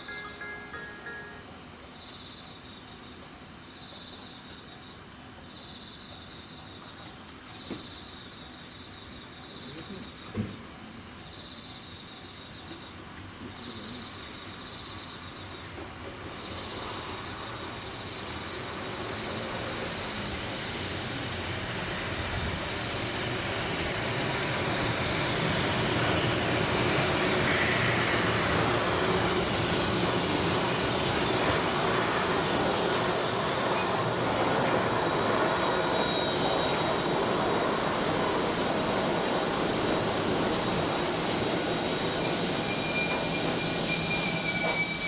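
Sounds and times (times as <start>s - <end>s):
insects chirping: 0.0s - 45.0s
train running on rails: 0.0s - 45.0s.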